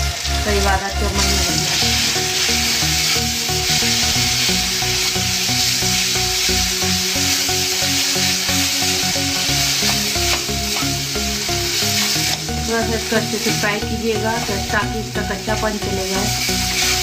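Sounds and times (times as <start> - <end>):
background music: 0.0 - 17.0
spices sizzling in hot oil: 0.0 - 17.0.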